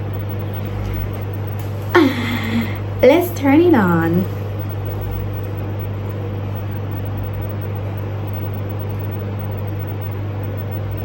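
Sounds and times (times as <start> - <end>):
steady electrical drone: 0.0 - 11.0.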